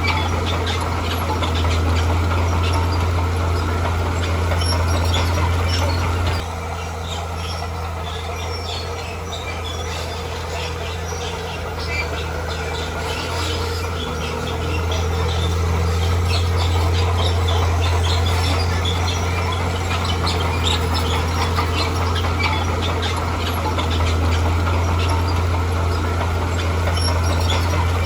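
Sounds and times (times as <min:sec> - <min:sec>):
bulldozer diesel engine: 0:00.0 - 0:28.0
high-pitched squeaks and squeals: 0:00.0 - 0:28.0.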